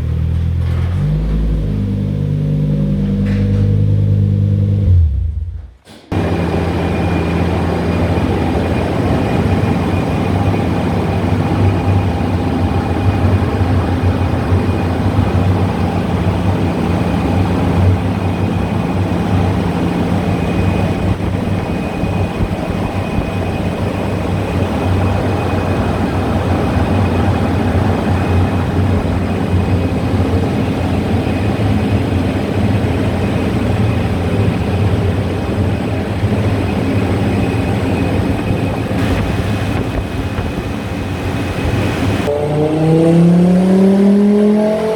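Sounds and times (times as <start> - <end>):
car engine idling: 0.0 - 42.3.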